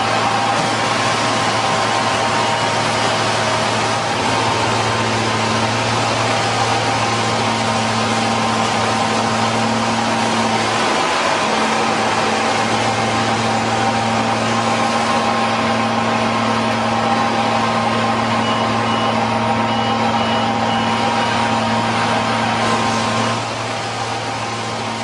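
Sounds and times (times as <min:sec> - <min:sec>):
grain pouring from auger: 0:00.0 - 0:20.2, 0:20.8 - 0:25.0
combine harvester and tractor drone: 0:00.0 - 0:25.0.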